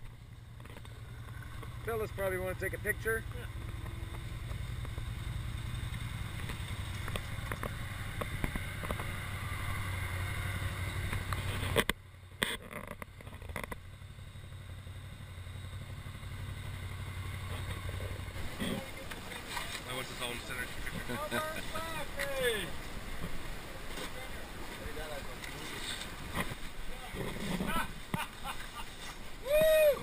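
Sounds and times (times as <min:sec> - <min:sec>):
atv engines idling: 0:00.0 - 0:30.0.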